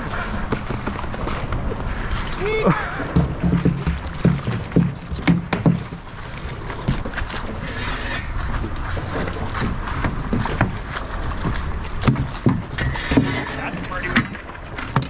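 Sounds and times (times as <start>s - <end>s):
water lapping at boat: 0.0s - 15.0s.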